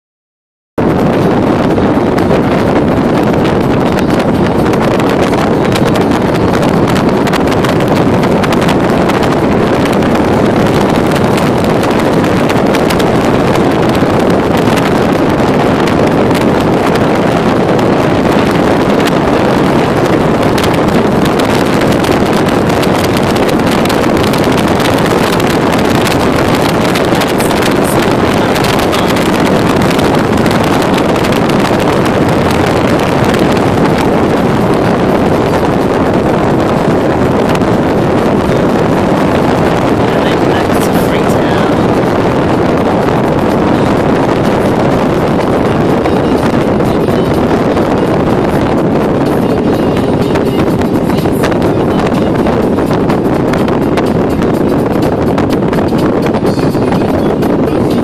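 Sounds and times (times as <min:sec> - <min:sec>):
vehicle road noise: 0:00.8 - 0:58.0
wind rushing on microphone: 0:00.8 - 0:58.0.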